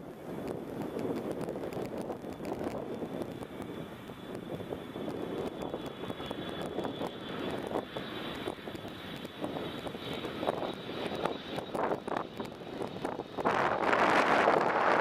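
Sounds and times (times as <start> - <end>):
high jet engine whine: 0.0 - 15.0
jet engines roaring: 0.0 - 15.0.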